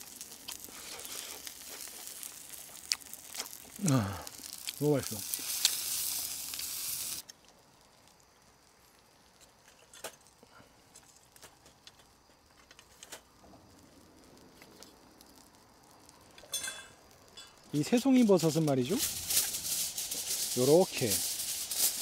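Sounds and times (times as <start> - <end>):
frying sizzle: 0.0 - 10.6, 11.2 - 22.0.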